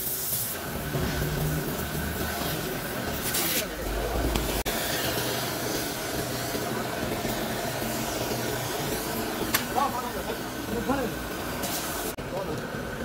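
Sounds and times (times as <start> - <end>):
welding torch flame hissing: 0.0 - 13.0.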